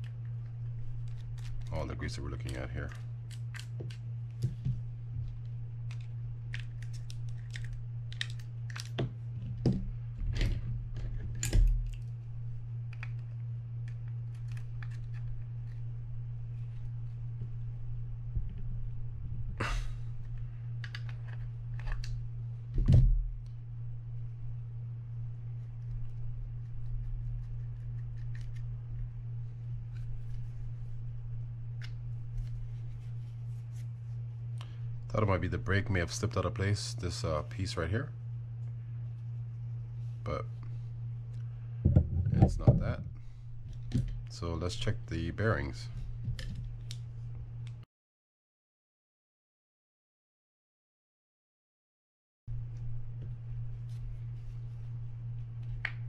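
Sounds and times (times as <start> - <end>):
steady low hum: 0.0 - 47.9, 52.5 - 56.0.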